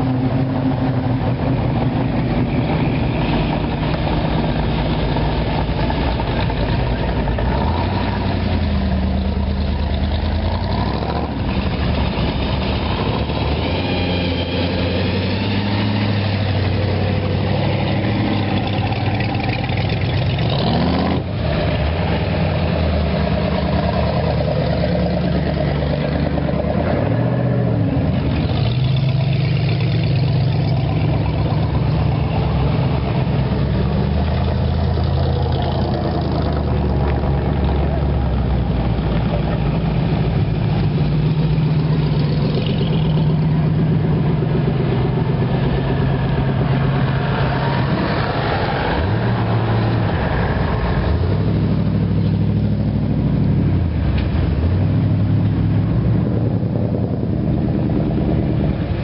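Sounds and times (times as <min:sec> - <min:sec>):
car engines cruising past: 0:00.0 - 0:59.0.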